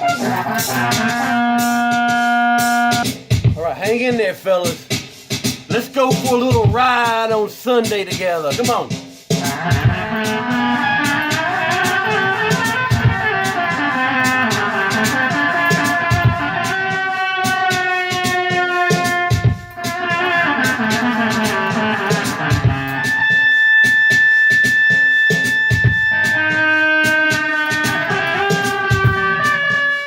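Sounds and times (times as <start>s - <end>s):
guitar-led music with drums: 0.0s - 30.0s.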